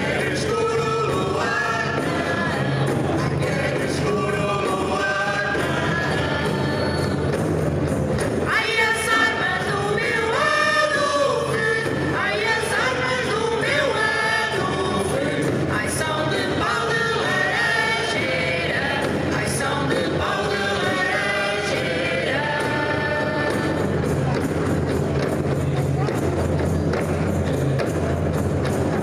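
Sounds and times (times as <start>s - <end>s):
group singing folk song: 0.0s - 24.4s.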